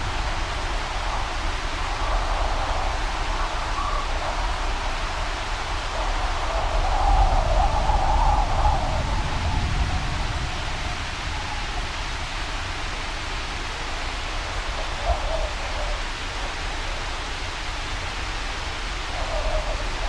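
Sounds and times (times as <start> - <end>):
rain: 0.0 - 20.0
wind: 0.0 - 20.0.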